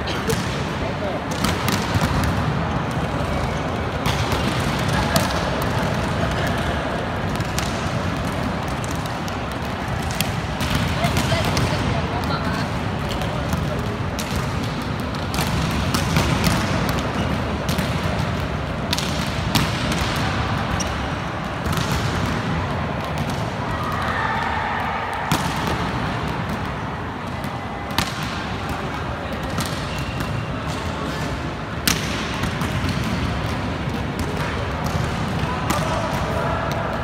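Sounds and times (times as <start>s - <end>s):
sports hall din: 0.0s - 37.0s
volleyballs struck and bouncing: 0.0s - 37.0s.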